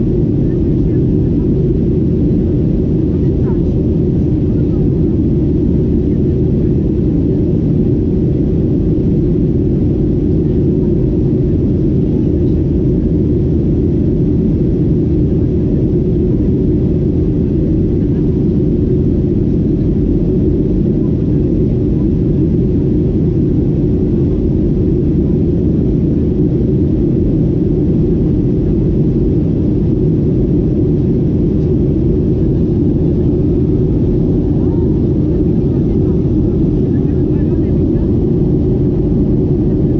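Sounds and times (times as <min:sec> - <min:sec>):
jet engines and airflow: 0:00.0 - 0:39.9.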